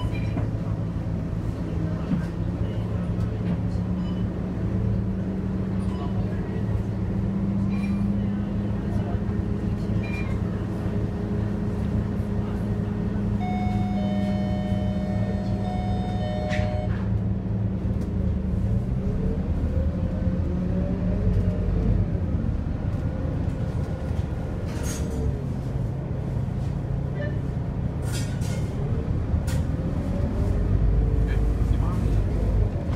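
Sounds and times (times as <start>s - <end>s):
bus diesel engine droning: 0.0s - 32.9s.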